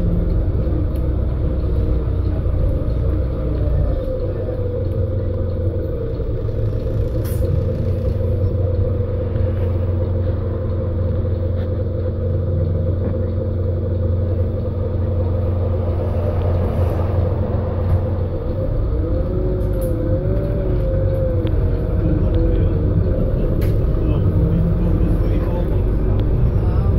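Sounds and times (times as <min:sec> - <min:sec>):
bus engine rumble from inside: 0:00.0 - 0:26.9.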